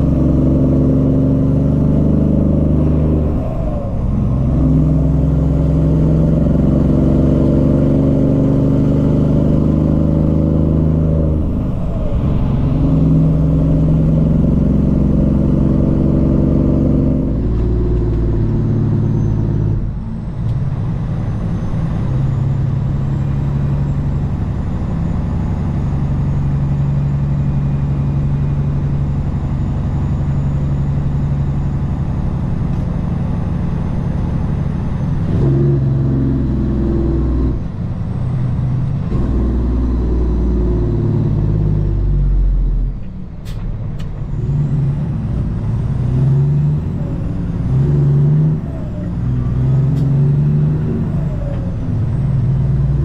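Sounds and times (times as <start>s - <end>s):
diesel truck engine: 0.0s - 53.0s.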